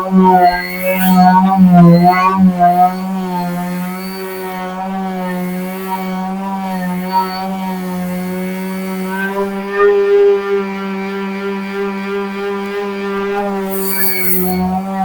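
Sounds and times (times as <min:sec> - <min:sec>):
electric sander on wood: 0:00.0 - 0:15.0.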